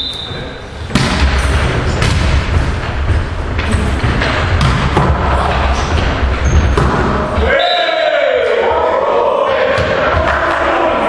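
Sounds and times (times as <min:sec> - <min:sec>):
booming hall din: 0:00.0 - 0:11.0
volleyball hits echoing: 0:00.8 - 0:07.6, 0:08.7 - 0:10.9.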